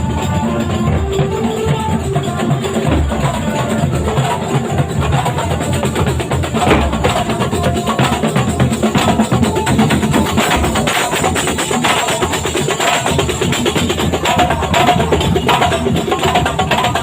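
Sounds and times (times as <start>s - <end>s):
fast dense drumming: 0.0s - 17.0s
held melody line: 0.0s - 17.0s.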